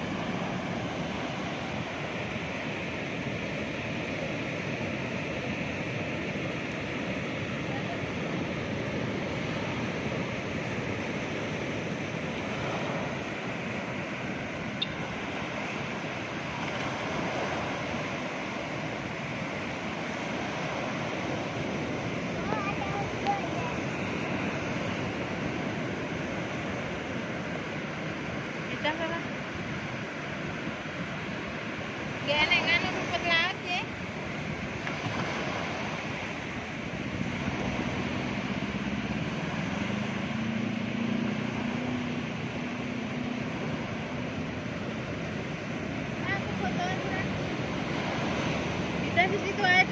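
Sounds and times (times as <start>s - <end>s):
ocean waves breaking: 0.0s - 49.9s
surf: 0.0s - 49.9s.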